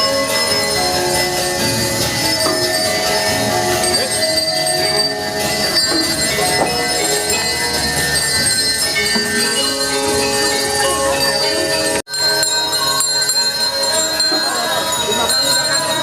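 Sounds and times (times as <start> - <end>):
gamelan metallophones and gongs: 0.0 - 16.0.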